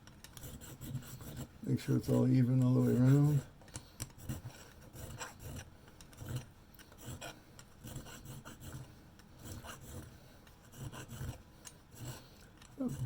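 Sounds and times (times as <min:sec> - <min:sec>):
fine file rasping on metal: 0:00.4 - 0:03.5, 0:04.2 - 0:13.0.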